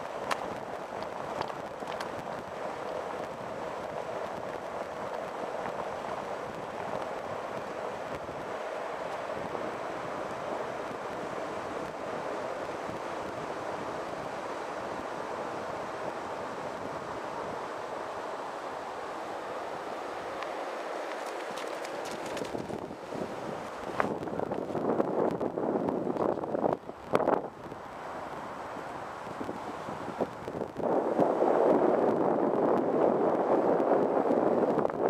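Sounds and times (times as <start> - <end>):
surf washing: 0.0 - 35.0
wind on microphone: 0.0 - 35.0.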